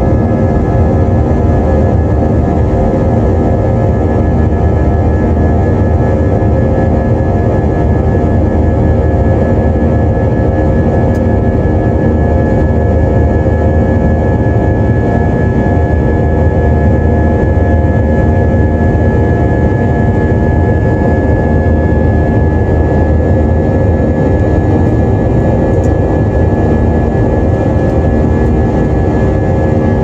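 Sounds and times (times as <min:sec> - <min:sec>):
high engine whine: 0:00.0 - 0:30.0
jet engine rumble in cabin: 0:00.0 - 0:30.0.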